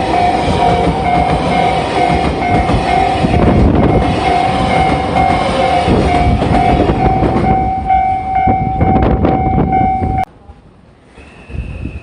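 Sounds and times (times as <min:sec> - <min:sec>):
crossing warning bell ringing: 0:00.0 - 0:10.3
train rumbling past: 0:00.0 - 0:12.0.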